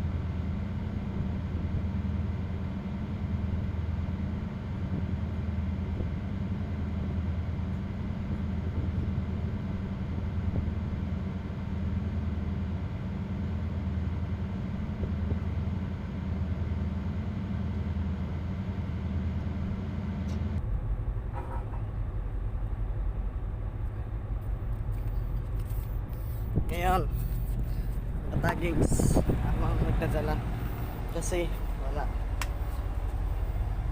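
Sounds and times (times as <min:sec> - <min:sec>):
diesel engine drone: 0:00.0 - 0:33.9.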